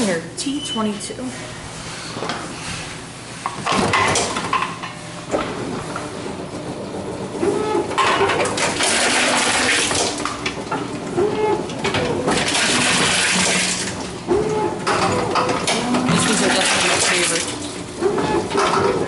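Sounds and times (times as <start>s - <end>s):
vending machine rushing mechanical noise: 1.8s - 19.0s.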